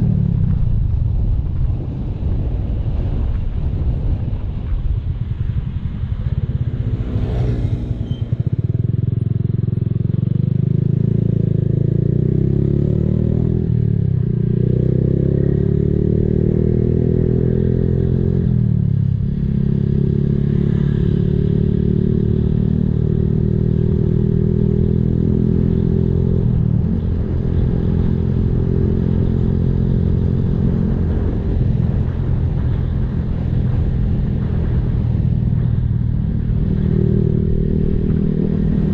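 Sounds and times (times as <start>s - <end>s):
motorcycle engine revving: 5.8s - 38.9s.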